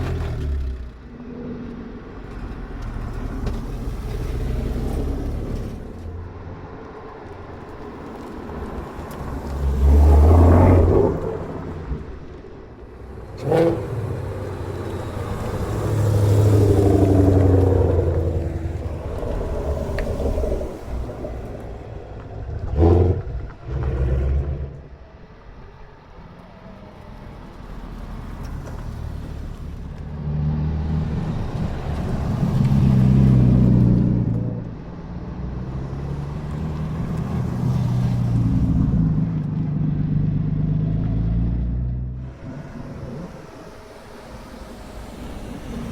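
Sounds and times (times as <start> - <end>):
cars driving slowly past: 0.0 - 45.9.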